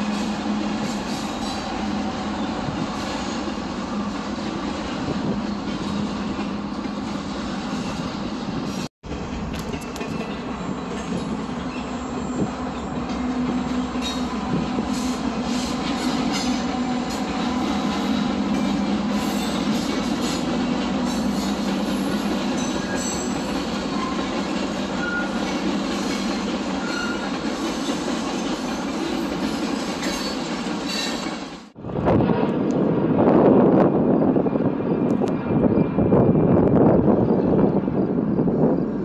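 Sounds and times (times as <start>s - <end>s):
train cars rumbling: 0.0s - 39.0s.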